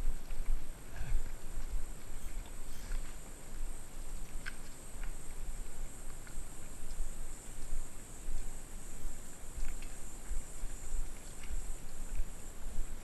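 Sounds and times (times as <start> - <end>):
wind rumble on microphone: 0.0 - 13.0
crickets chirring: 0.2 - 13.0.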